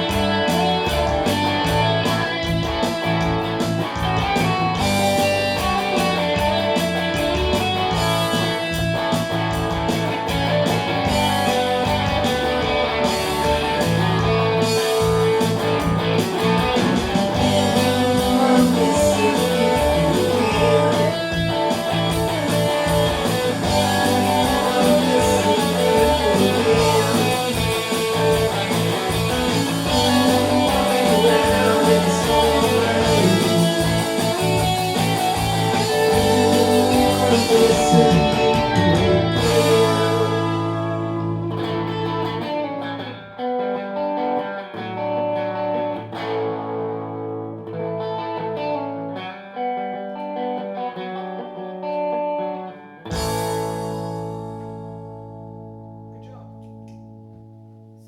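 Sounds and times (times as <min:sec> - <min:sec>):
guitar-led music: 0:00.0 - 0:58.0.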